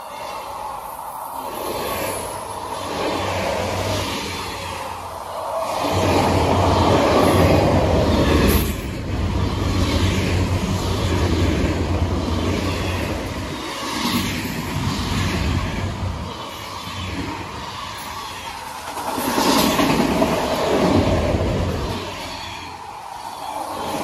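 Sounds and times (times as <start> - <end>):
steel wheels rumbling on rails: 0.0 - 24.0.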